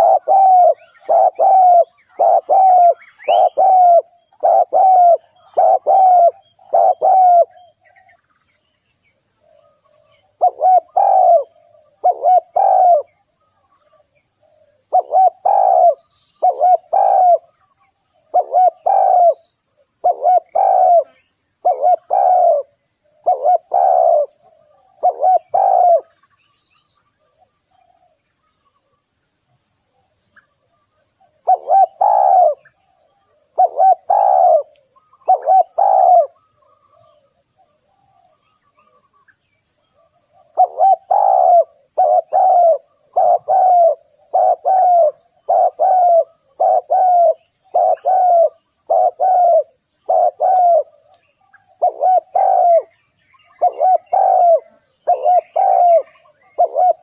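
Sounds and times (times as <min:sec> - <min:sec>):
dove cooing: 0:00.0 - 0:08.1, 0:09.4 - 0:13.2, 0:13.9 - 0:19.4, 0:20.0 - 0:26.2, 0:30.7 - 0:39.0, 0:40.0 - 0:57.0.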